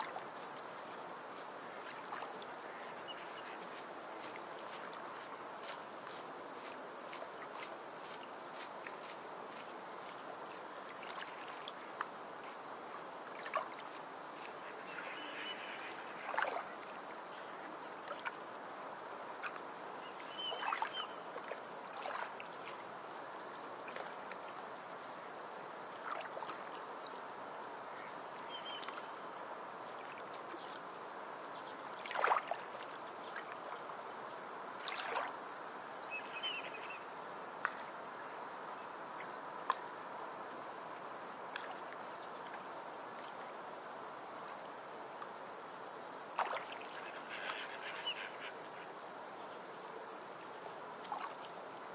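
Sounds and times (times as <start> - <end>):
small waves lapping on a beach: 0.0 - 51.9.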